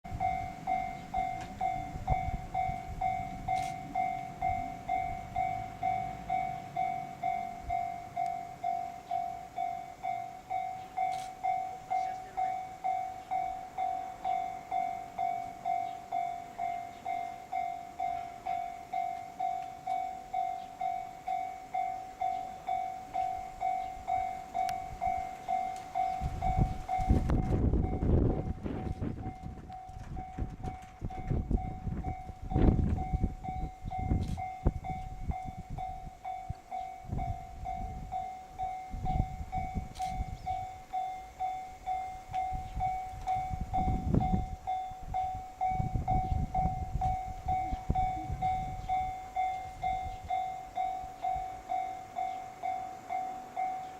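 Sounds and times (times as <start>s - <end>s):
level crossing warning bell: 0.0s - 53.9s.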